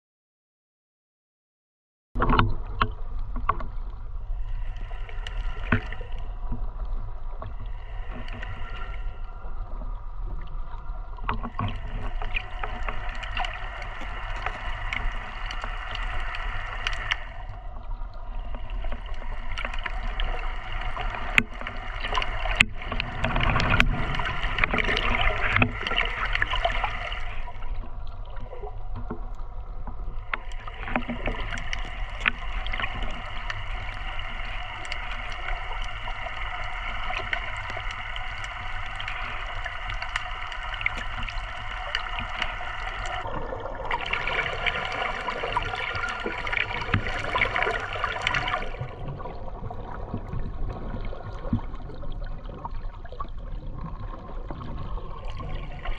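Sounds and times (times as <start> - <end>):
underwater rumble of moving water: 2.2 - 55.9
underwater hiss: 4.2 - 52.6.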